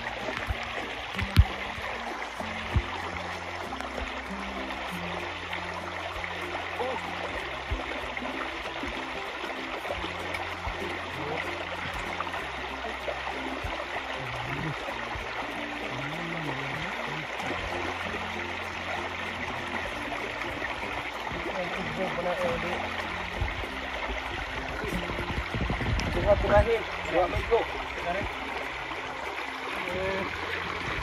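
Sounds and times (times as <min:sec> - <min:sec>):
background music with bass notes: 0:00.0 - 0:31.0
stream water flowing: 0:00.0 - 0:31.0.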